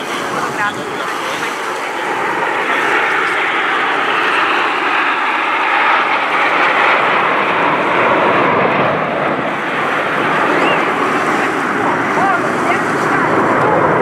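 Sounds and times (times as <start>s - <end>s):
jet aircraft flying overhead: 0.0s - 14.0s.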